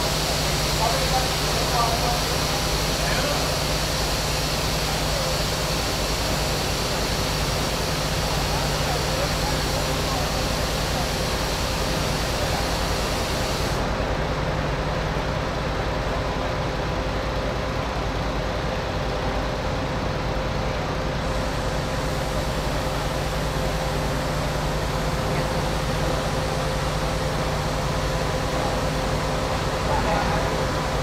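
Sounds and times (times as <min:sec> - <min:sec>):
heavy vehicle engine humming: 0:00.0 - 0:31.0.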